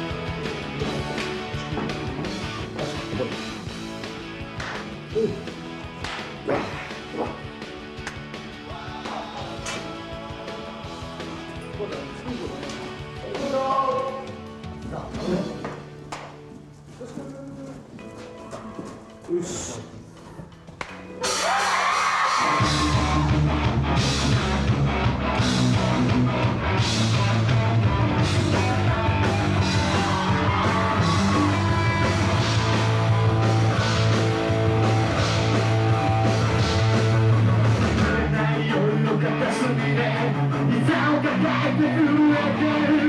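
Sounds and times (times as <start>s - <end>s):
rock band playing: 0.0s - 15.5s, 21.2s - 43.0s.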